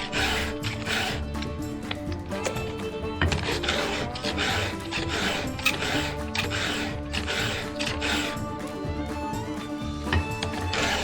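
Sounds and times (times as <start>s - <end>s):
background music with beat: 0.0s - 11.0s
file rasping on saw chain: 0.0s - 11.0s.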